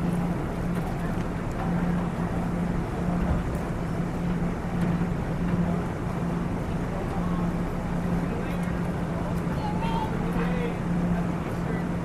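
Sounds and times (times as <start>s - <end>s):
diesel train engine idling: 0.0s - 12.0s.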